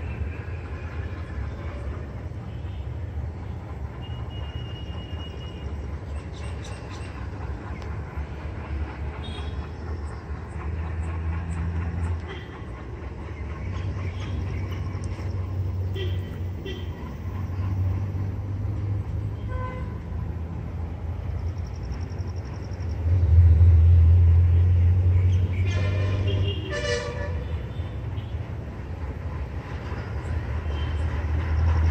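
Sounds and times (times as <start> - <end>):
diesel locomotive engine drone: 0.0 - 31.9.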